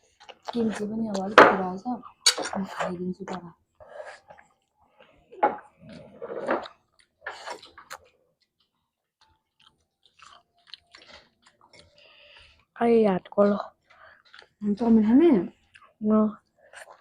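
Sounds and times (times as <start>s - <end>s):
crunchy chewing: 0.0s - 1.4s, 2.0s - 12.8s, 13.6s - 17.0s.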